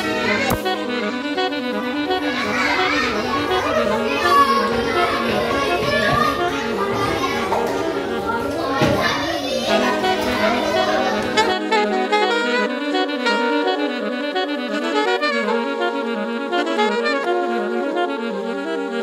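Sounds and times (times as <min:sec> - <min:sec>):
children in classroom: 0:00.0 - 0:19.0
instrumental background music: 0:00.0 - 0:19.0.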